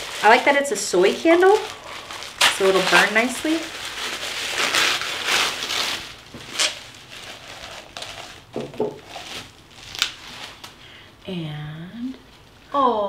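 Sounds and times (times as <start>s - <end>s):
shredded paper rustling: 0.0s - 10.7s.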